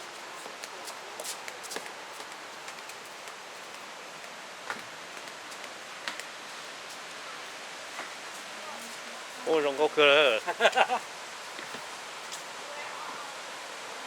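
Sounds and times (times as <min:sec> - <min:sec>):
running water hiss: 0:00.0 - 0:14.0.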